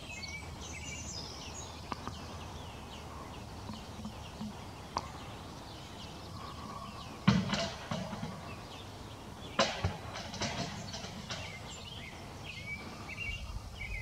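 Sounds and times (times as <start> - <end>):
low outdoor background rumble: 0.0 - 14.0
small birds chirping: 0.0 - 14.0.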